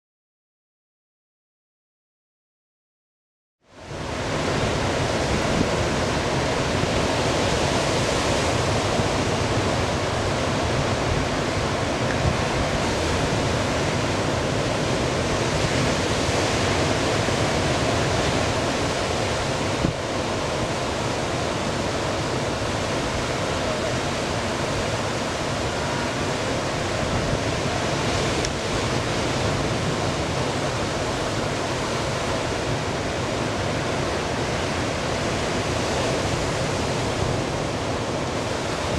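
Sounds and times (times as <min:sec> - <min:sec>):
ocean surf roaring: 0:03.7 - 0:38.9.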